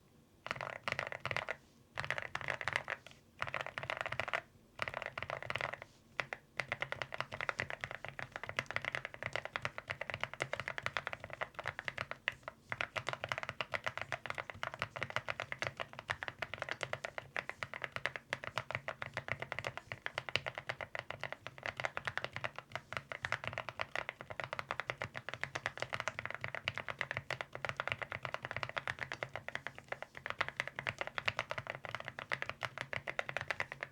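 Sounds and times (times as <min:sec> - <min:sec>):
mechanical keyboard typing: 0:00.5 - 0:33.9.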